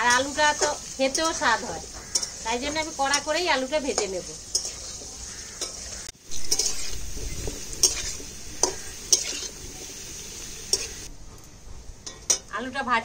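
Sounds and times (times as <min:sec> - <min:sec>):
potatoes sizzling in hot oil: 0:00.0 - 0:11.1.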